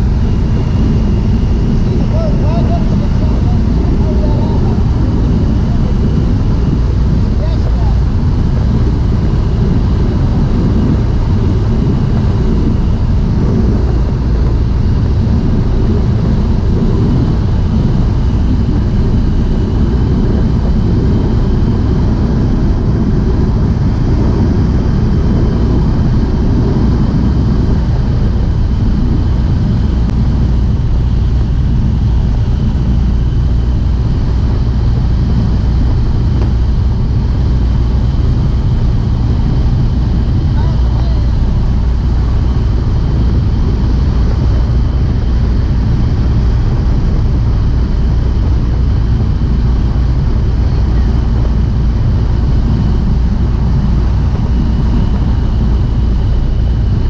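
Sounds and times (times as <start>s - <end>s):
airplane engine droning: 0.0s - 57.0s
rushing wind: 0.0s - 57.0s.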